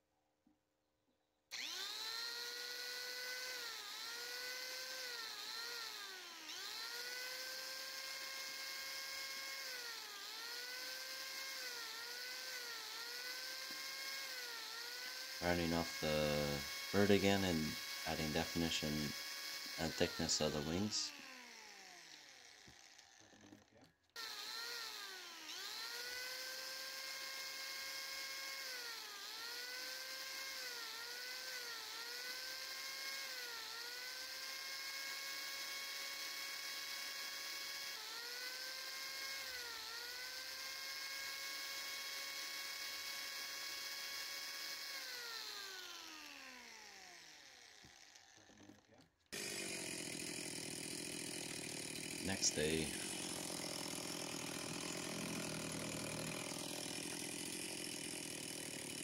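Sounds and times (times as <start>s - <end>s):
angle grinder whining: 1.5s - 59.0s.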